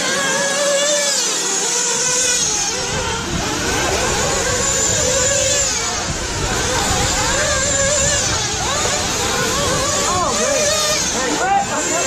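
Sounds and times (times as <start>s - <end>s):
rc car engines revving: 0.0s - 12.0s.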